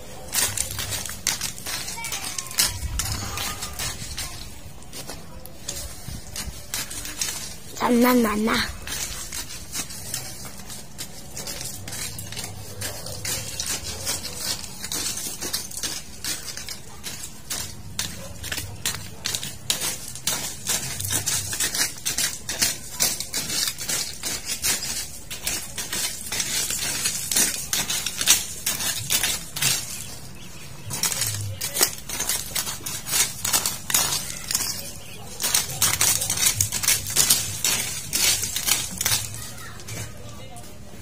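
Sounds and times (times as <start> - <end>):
weeds rustling as pulled: 0.0 - 41.0.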